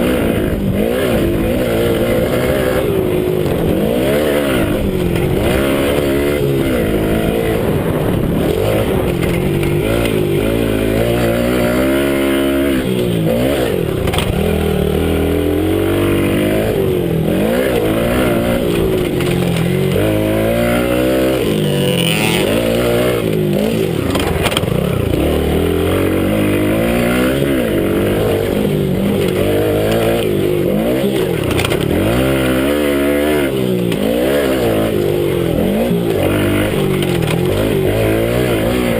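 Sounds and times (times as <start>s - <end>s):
minibike engine revving: 0.0s - 38.9s.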